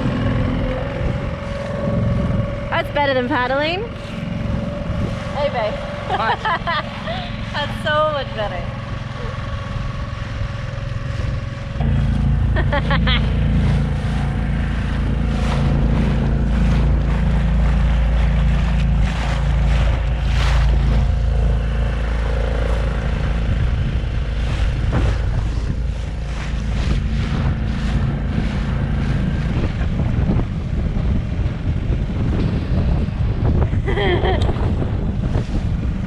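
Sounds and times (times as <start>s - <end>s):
outboard motor running: 0.0s - 36.0s
water rushing past hull: 0.0s - 36.0s
wind buffeting microphone: 0.0s - 36.0s.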